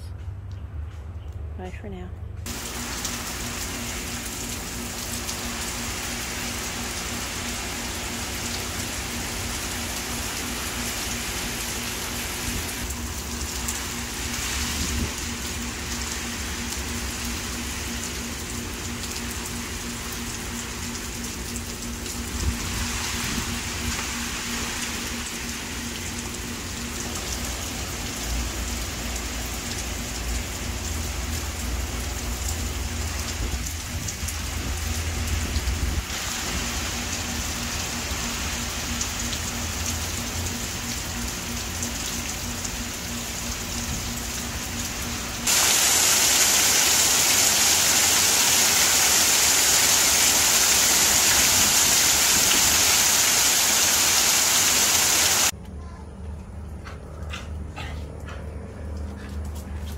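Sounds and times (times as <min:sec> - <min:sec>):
rain splashing on surfaces: 0:02.4 - 0:55.6.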